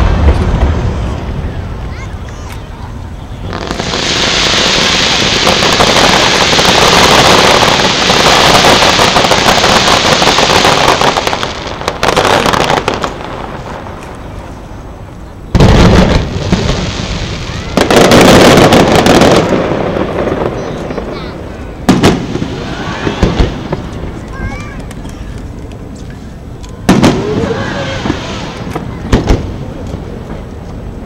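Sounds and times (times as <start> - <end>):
loud firework bangs: 0.0 - 2.7, 3.3 - 14.3, 15.5 - 24.7, 26.8 - 30.5
fireworks crackling: 0.0 - 31.0.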